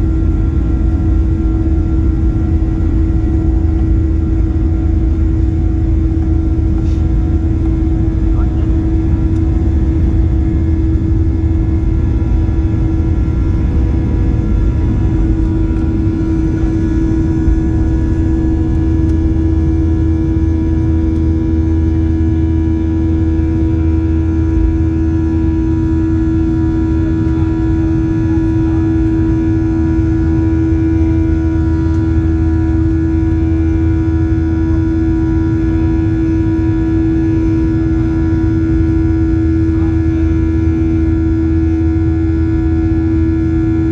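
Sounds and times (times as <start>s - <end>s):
jet engines droning in cabin: 0.0s - 43.9s.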